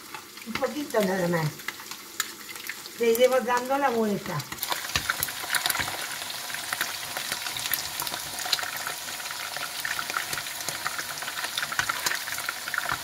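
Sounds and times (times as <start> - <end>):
meatballs sizzling in frying pan: 0.0 - 13.0.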